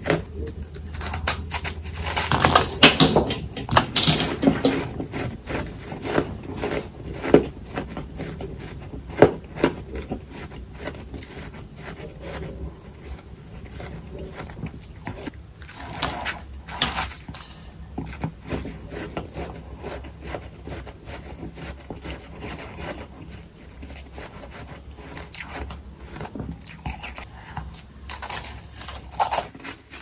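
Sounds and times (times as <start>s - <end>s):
crunchy chewing of ice: 0.0s - 30.0s.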